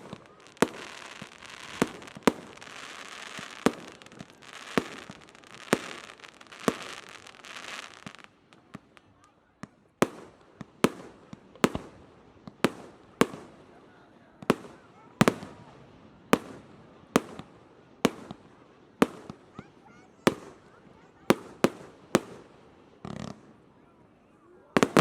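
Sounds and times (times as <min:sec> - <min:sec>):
fireworks bursting with echo: 0:00.0 - 0:25.0.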